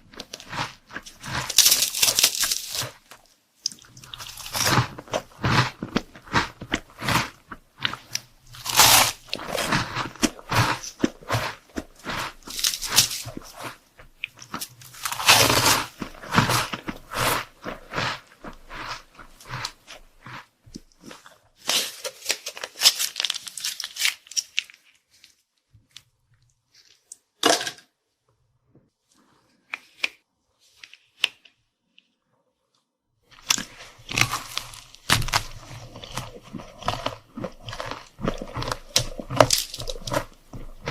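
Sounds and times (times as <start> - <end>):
crunching and chewing snacks: 0.0 - 27.3, 33.3 - 40.9.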